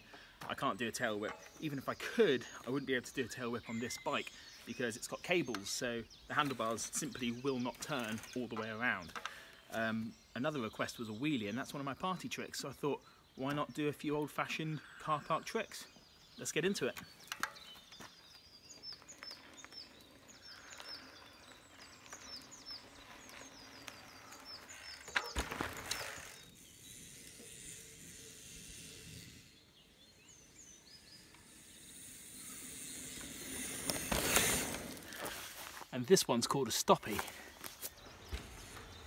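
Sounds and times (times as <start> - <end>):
small bird chirping: 1.0 - 35.5.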